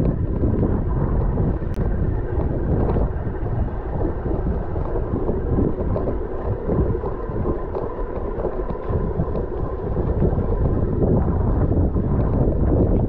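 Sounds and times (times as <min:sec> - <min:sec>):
faint steady whine: 0:00.0 - 0:13.0
wind buffeting microphone: 0:00.0 - 0:13.0.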